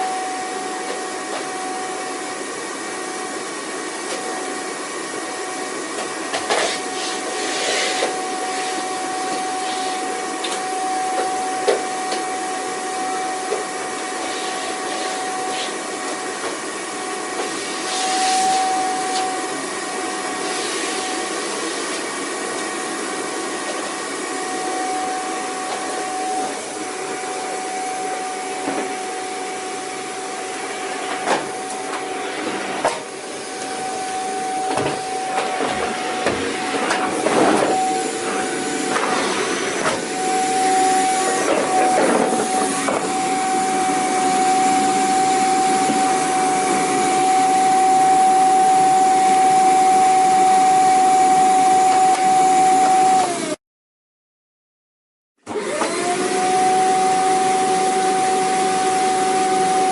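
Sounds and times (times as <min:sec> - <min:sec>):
vacuum cleaner running: 0:00.0 - 0:53.6, 0:55.4 - 0:59.9.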